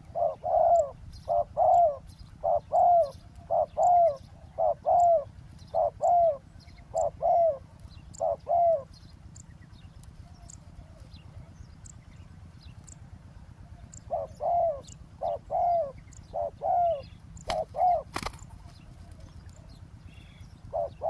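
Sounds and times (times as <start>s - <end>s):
dove cooing: 0.0s - 9.4s, 10.2s - 12.0s, 13.6s - 21.0s
small birds chirping: 0.0s - 21.0s.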